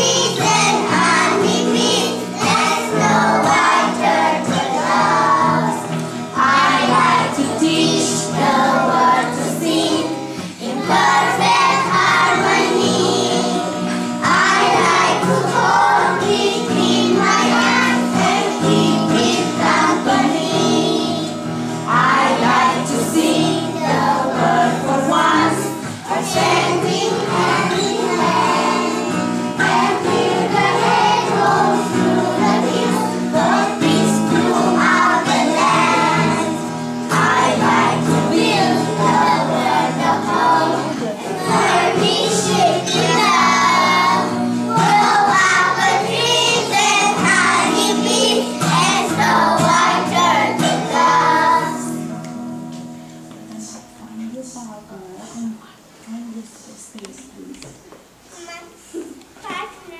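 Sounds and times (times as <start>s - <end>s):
children singing: 0.0s - 52.1s
musical accompaniment: 0.0s - 54.2s.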